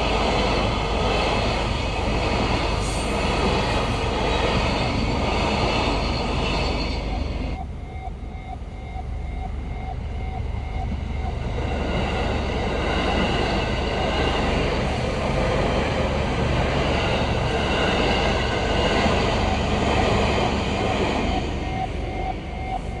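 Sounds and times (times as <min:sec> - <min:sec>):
train wheels on rails: 0:00.0 - 0:23.0
level crossing warning bell: 0:03.4 - 0:23.0.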